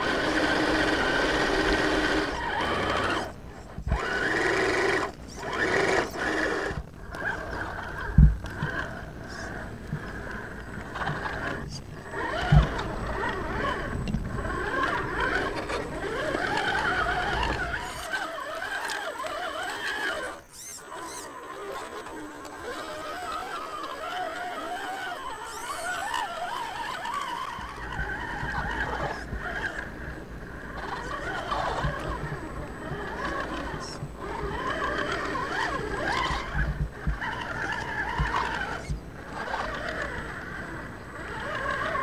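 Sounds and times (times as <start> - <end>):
electric motor and gearbox whining: 0.0 - 42.0
tyres churning through mud: 0.0 - 42.0.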